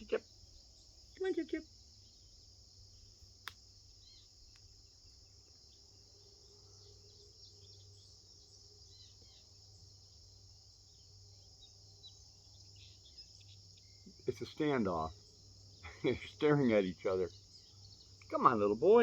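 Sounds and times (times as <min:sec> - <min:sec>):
faint chirps: 0:00.0 - 0:19.0
insects chorus: 0:00.0 - 0:19.0.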